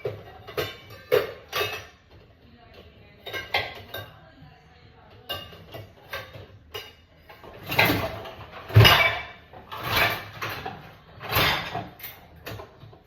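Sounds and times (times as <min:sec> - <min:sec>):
dishes and racks sliding and knocking: 0:00.0 - 0:02.3, 0:03.2 - 0:04.2, 0:05.2 - 0:13.0.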